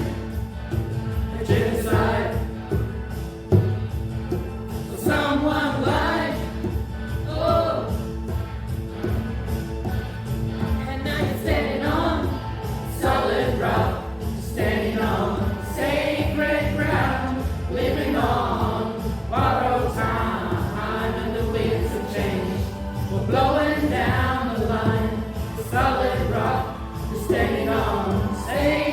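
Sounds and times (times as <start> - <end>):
choir singing: 0.0 - 3.0, 4.8 - 8.1, 10.8 - 28.9.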